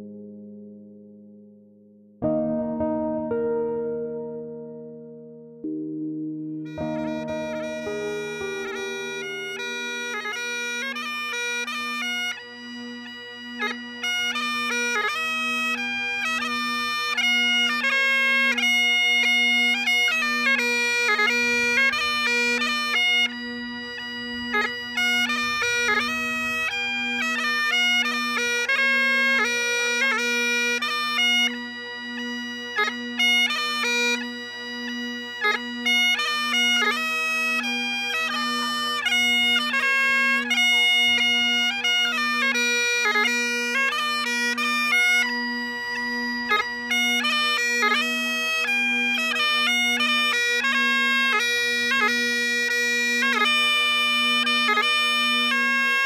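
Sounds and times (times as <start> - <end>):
bagpipe chanter melody: 4.2 - 56.0
bagpipe drones: 5.6 - 56.0.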